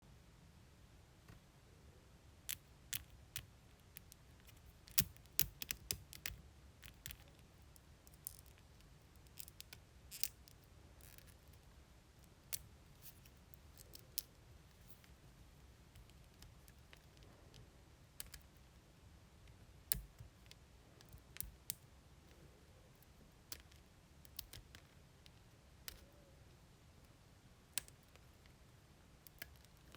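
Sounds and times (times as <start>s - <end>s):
faint low hum: 0.0s - 29.9s.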